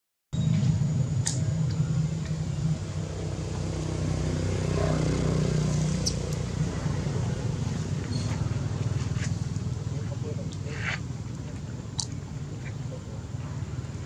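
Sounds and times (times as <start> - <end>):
low engine drone: 0.4 - 14.0.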